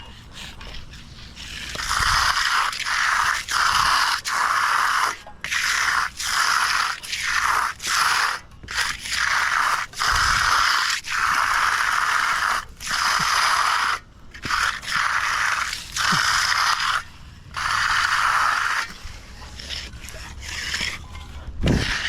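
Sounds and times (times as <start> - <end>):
hand tool scraping concrete: 0.0 - 22.0.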